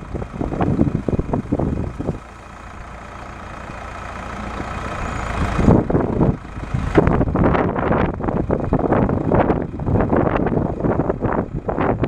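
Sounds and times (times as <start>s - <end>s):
backhoe diesel engine running: 0.0s - 12.0s.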